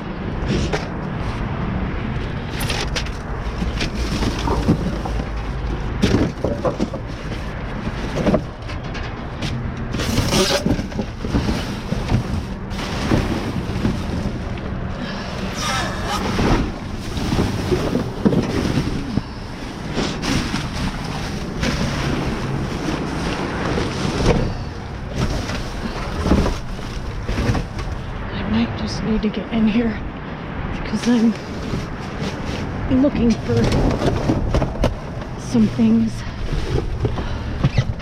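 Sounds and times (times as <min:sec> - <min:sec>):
steady low rumble: 0:00.0 - 0:38.0
knocks and rustles of handling: 0:02.4 - 0:15.0, 0:15.9 - 0:28.2, 0:30.9 - 0:38.0.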